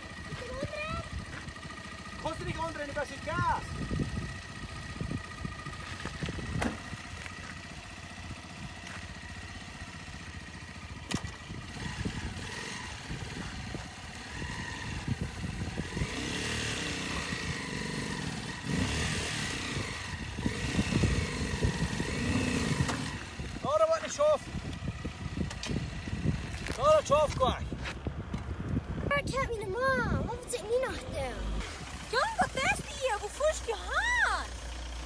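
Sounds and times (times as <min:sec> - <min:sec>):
motorcycle engine revving: 0:00.0 - 0:29.0, 0:30.4 - 0:35.0.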